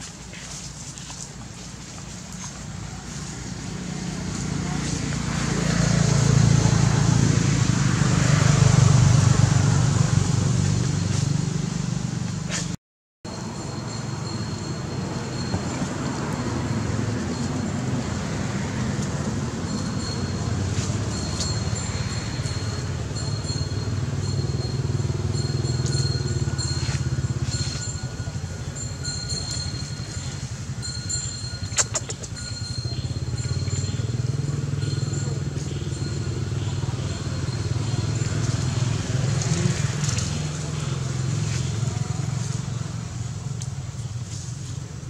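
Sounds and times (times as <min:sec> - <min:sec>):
vehicle engine running: 0:00.1 - 0:45.0.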